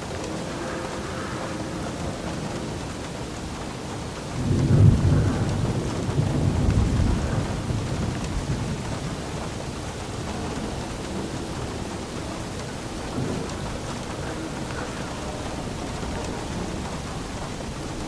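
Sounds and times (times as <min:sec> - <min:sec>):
steady rain: 0:00.0 - 0:18.0
thunder rumbling: 0:00.0 - 0:18.0.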